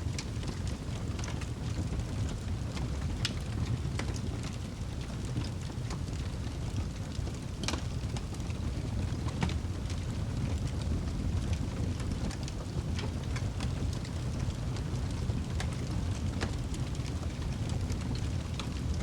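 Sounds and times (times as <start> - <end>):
fire burning in fireplace: 0.0 - 19.0
fire crackling and popping: 0.0 - 19.0.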